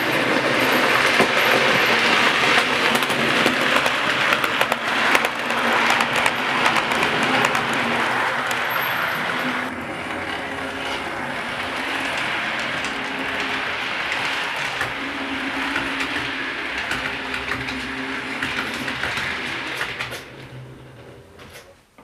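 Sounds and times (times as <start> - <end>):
model train motor hum: 0.0 - 21.7
wheels ticking over rail joints: 0.0 - 22.0.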